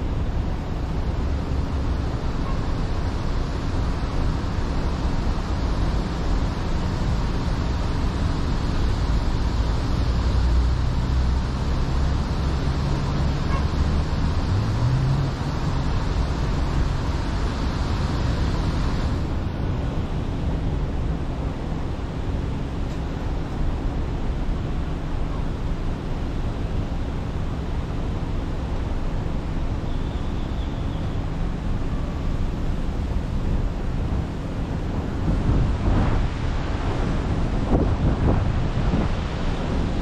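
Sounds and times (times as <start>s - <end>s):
car engine noise: 0.0s - 40.0s.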